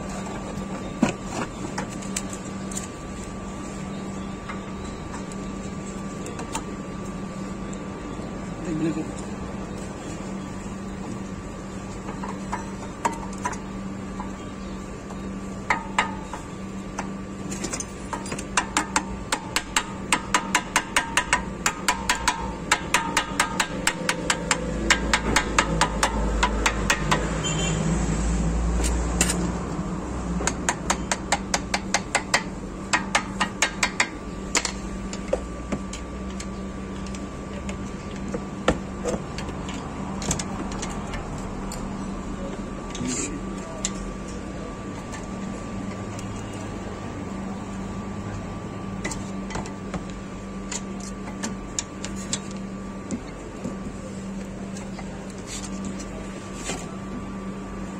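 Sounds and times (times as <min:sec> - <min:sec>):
steady background hum: 0:00.0 - 0:57.9.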